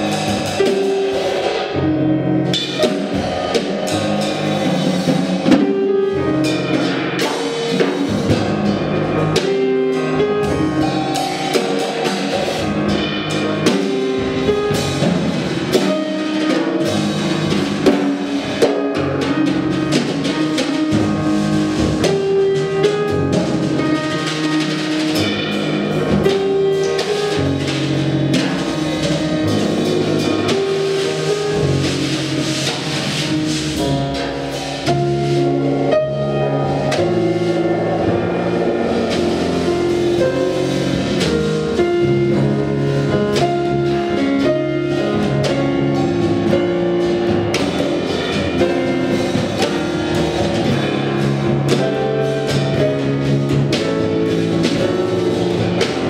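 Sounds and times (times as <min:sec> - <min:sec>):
drum kit with cymbals: 0:00.0 - 0:56.0
grand piano: 0:00.0 - 0:56.0
plucked double bass: 0:00.0 - 0:56.0.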